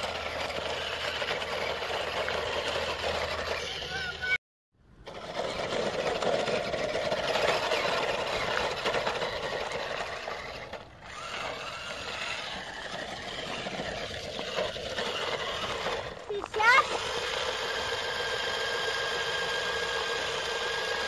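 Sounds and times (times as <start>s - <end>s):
toy truck motor whirring: 0.0s - 4.4s, 5.0s - 21.0s.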